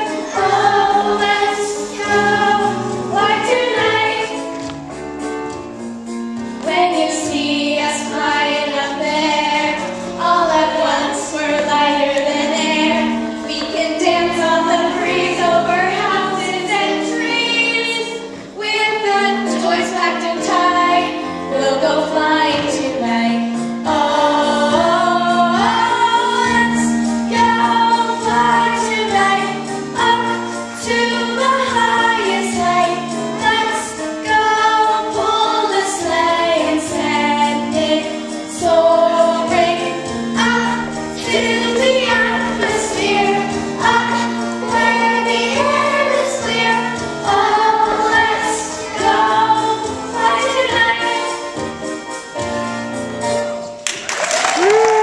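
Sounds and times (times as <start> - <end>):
girls singing in unison: 0.0 - 4.5, 6.6 - 51.4
instrumental accompaniment with bass: 0.0 - 55.0.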